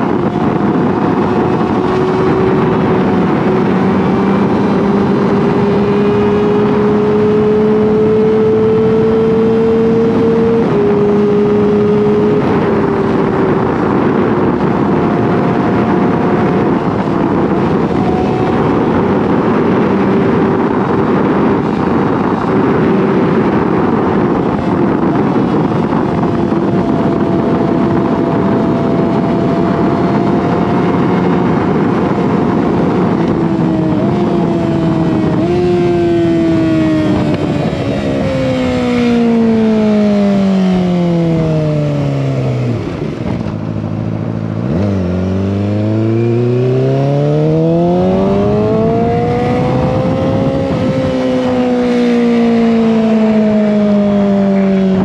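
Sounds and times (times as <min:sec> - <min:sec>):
motorcycle engine at speed: 0:00.0 - 0:55.0
wind rush on microphone: 0:00.0 - 0:55.0.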